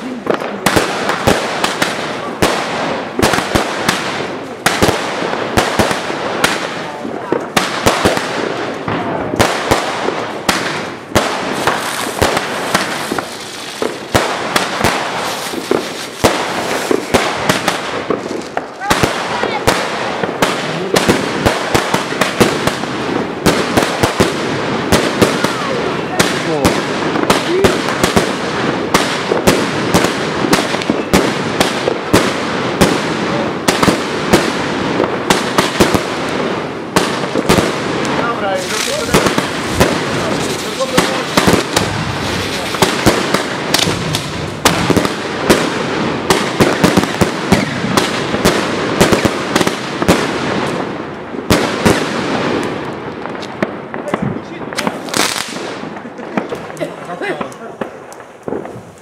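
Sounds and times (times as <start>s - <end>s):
crackling fireworks: 0.0s - 59.0s
fireworks banging: 0.0s - 59.0s.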